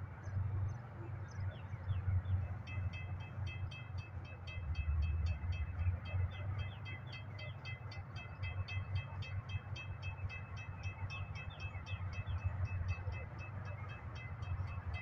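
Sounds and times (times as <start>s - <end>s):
diesel locomotive rumbling: 1.9s - 15.0s.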